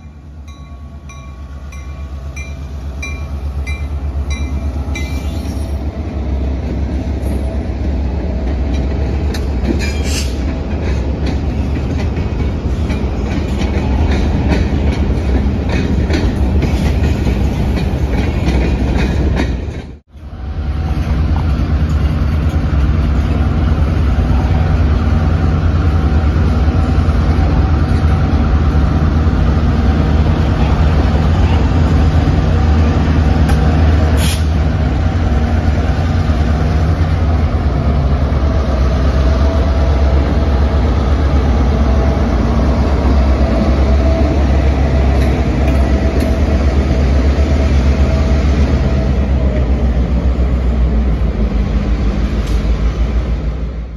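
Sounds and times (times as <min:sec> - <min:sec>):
freight cars rolling on rails: 0:00.0 - 0:53.9
locomotive engine rumble: 0:00.0 - 0:53.9.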